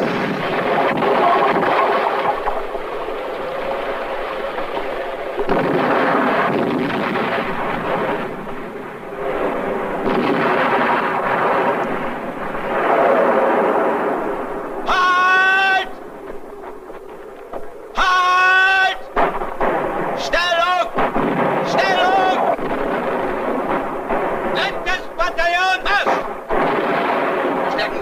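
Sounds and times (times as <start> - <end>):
explosions: 0.0 - 28.0
gunfire: 0.0 - 28.0.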